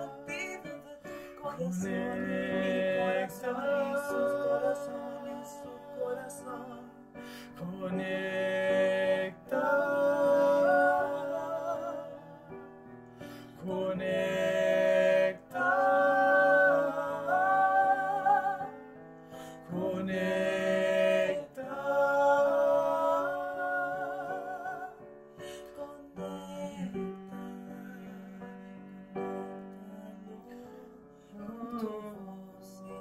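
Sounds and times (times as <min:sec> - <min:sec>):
voices singing slow melody: 0:00.0 - 0:33.0.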